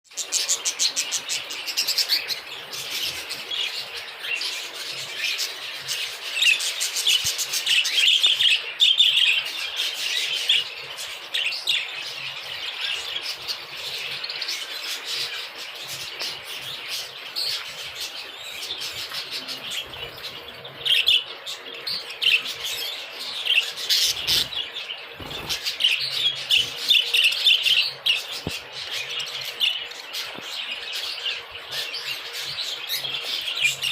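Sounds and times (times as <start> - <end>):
budgerigars chattering and chirping: 0.1 - 33.9.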